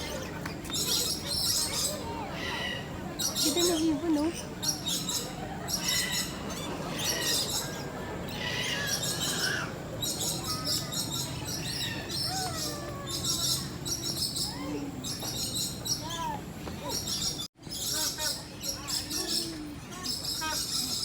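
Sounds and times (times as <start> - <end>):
birds chirping: 0.0 - 21.0
murmur of voices: 0.0 - 21.0.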